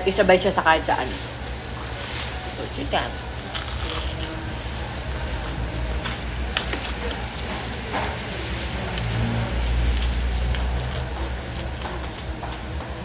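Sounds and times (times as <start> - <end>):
crunching and chewing food: 1.0 - 13.0.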